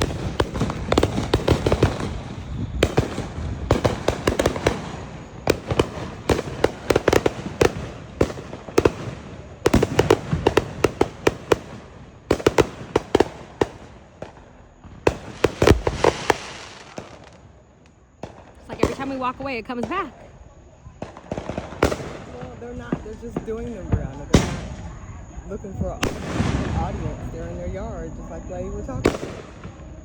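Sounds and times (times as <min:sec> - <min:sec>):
firecrackers popping: 0:00.0 - 0:20.3, 0:20.9 - 0:27.7, 0:28.5 - 0:30.0.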